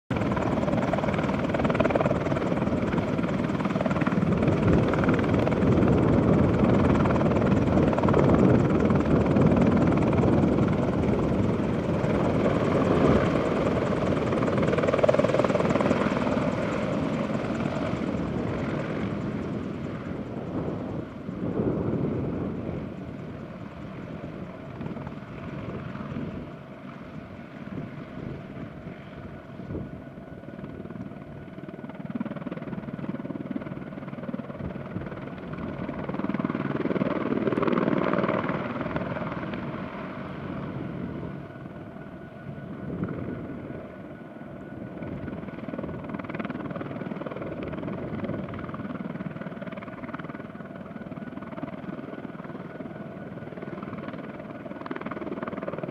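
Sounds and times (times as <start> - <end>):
helicopter rotor and engines: 0.0 - 55.9
steady engine whine: 0.2 - 55.9.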